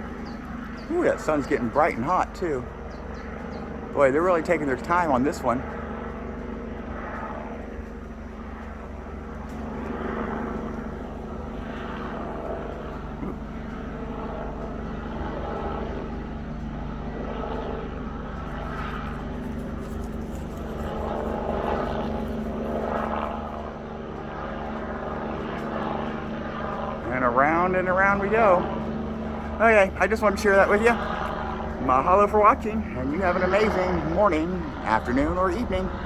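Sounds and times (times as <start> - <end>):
helicopter rotor drone: 0.0 - 36.0.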